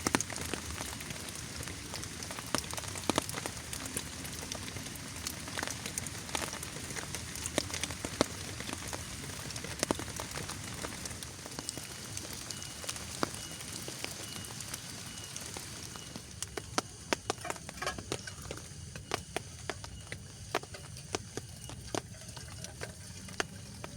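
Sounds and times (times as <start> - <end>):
rain falling: 0.0 - 23.9
raindrop impacts: 0.0 - 23.9.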